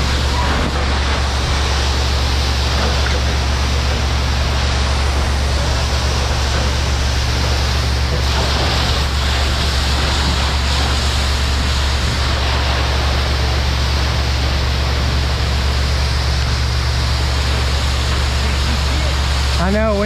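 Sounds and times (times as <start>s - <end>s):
constant low hum: 0.0s - 20.0s
fire hose spraying water: 0.0s - 20.0s.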